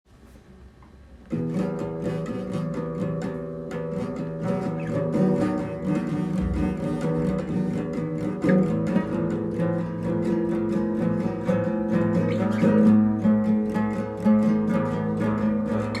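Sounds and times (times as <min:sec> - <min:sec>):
guitar playing chords: 0:01.2 - 0:16.0.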